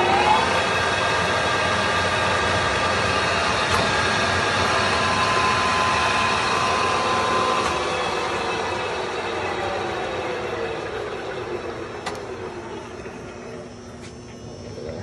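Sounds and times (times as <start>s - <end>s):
lathe humming with whine: 0.0s - 15.0s.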